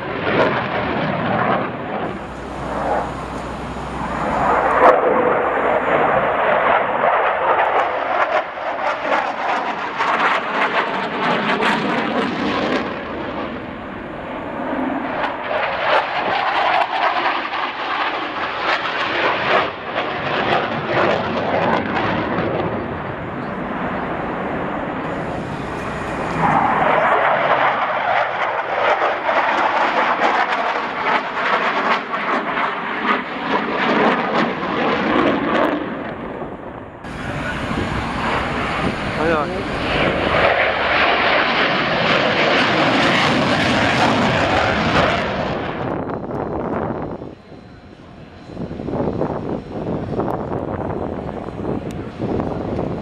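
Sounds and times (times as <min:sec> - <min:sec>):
fighter jet roar: 0:00.0 - 0:53.0.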